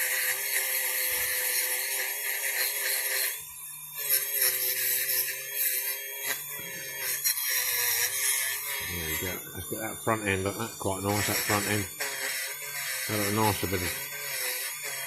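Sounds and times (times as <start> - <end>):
small power tool hissing: 0.0 - 15.0.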